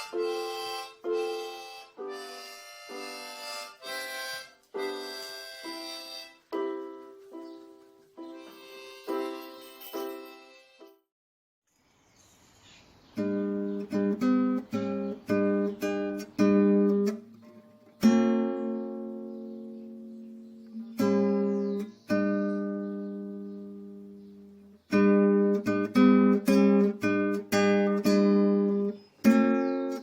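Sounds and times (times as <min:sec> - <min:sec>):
acoustic guitar strumming: 0:00.0 - 0:07.4, 0:08.2 - 0:10.9, 0:13.2 - 0:30.0.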